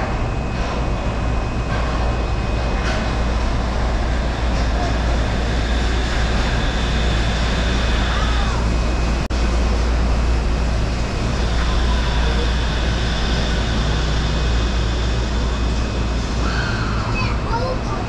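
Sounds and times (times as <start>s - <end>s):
high electric whine: 0.0s - 17.5s
monorail low rumble: 0.0s - 18.0s.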